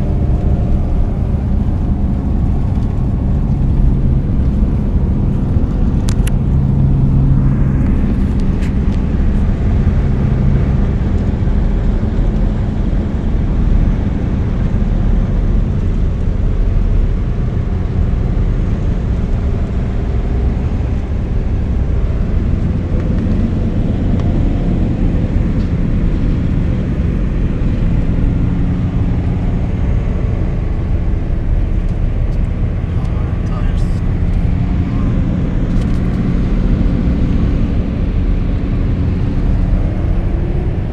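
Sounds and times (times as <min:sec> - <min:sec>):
car road noise: 0:00.0 - 0:40.9.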